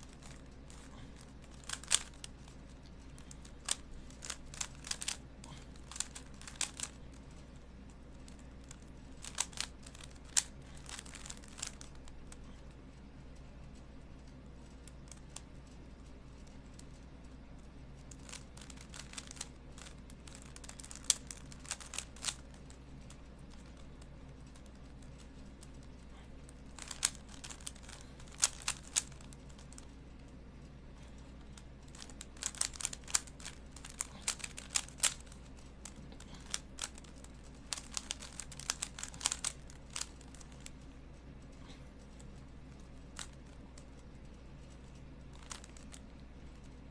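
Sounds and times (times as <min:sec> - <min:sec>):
faint steady hum: 0:00.0 - 0:46.9
puzzle cube clicking turns: 0:00.0 - 0:46.9.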